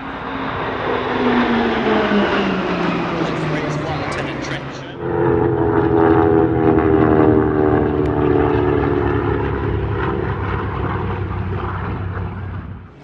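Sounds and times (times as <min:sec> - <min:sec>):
propeller planes flying past: 0:00.0 - 0:13.0.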